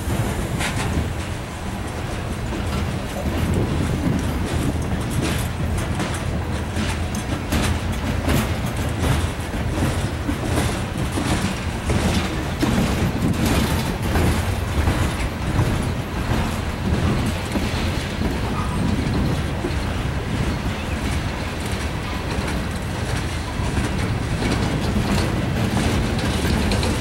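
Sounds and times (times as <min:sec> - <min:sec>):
freight train rumble: 0:00.0 - 0:27.0
wheels clacking over rail joints: 0:00.0 - 0:27.0.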